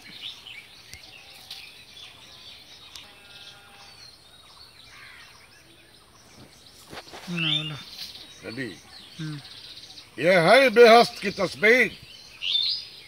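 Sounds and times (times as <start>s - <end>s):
distant bird calls: 0.0s - 13.0s.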